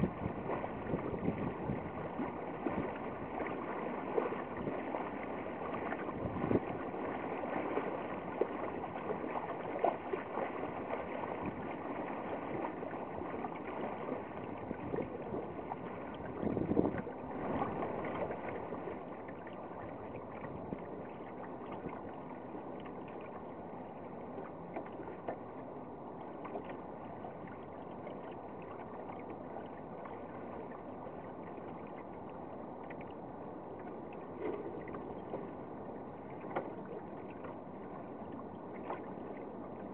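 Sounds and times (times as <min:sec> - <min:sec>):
water splashing along boat hull: 0:00.0 - 0:39.9.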